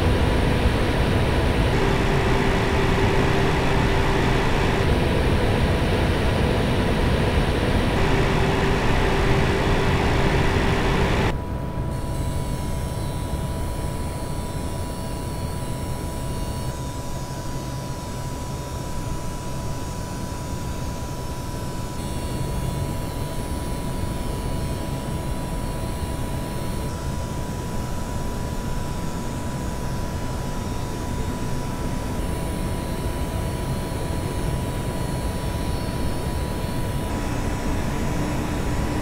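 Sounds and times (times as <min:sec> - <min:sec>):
coil whine high tone: 0:00.0 - 0:39.0
graphics card fans running: 0:00.0 - 0:39.0.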